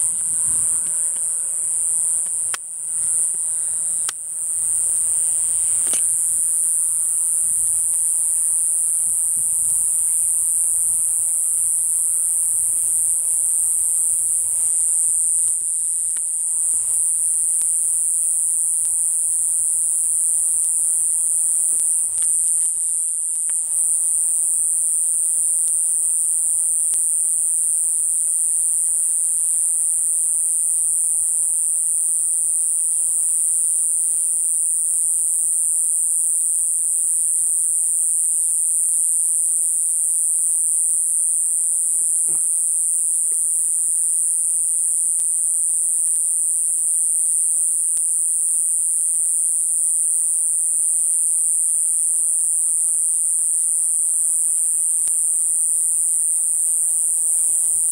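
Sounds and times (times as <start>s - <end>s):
insects chirping chorus: 0.0s - 57.9s.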